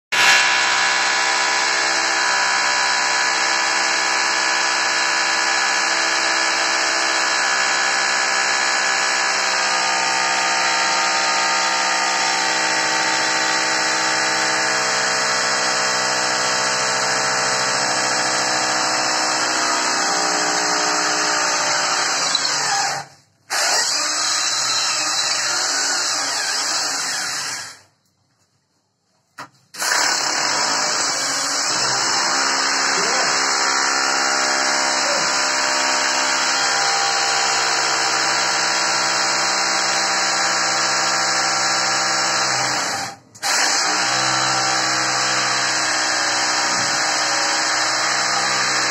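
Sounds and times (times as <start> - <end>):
hammer drill drilling into tile: 0.2 - 27.9, 29.7 - 48.9.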